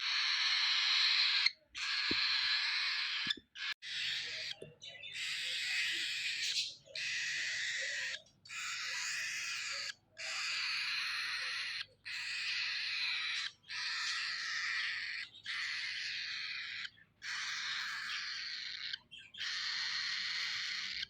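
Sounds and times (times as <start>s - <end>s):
baby cockatiel raspy begging calls: 0.0s - 21.0s.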